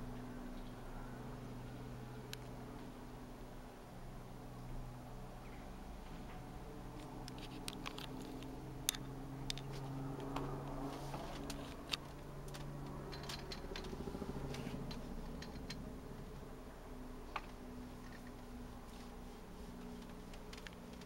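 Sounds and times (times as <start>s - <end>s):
distant helicopter drone: 0.0s - 21.0s.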